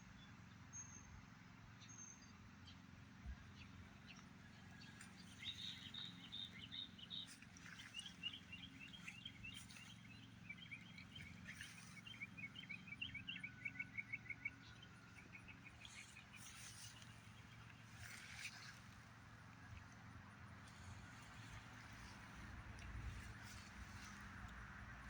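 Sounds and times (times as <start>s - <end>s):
songbirds chirping and trilling: 0.0s - 25.0s.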